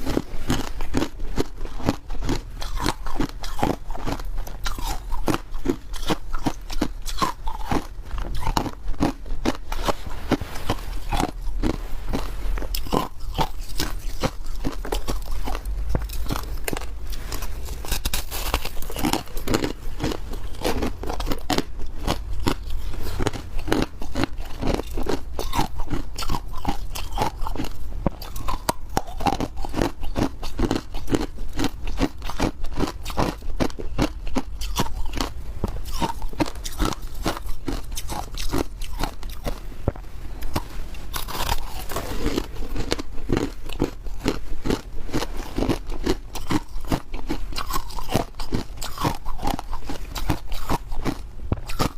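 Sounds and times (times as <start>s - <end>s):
ice crunching between teeth: 0.0s - 39.6s, 40.4s - 51.9s.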